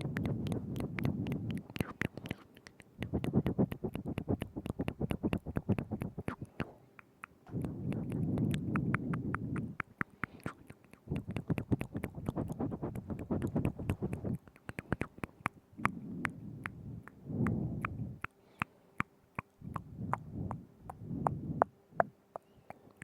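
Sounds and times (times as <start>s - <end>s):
lip smacks: 0.0s - 23.0s
soft muffled mouth noise: 0.0s - 23.0s
tongue clicks: 0.0s - 23.0s.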